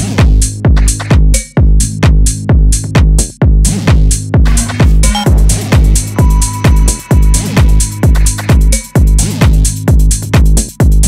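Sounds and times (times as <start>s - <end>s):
electronic dance music: 0.0s - 11.0s
kick drum thuds: 0.0s - 11.0s.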